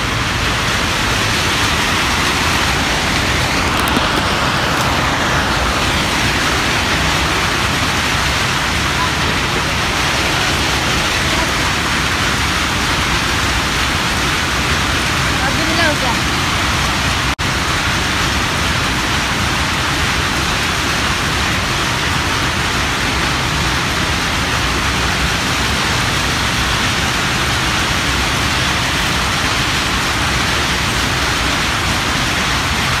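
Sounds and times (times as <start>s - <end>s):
loud hiss-like noise: 0.0s - 33.0s.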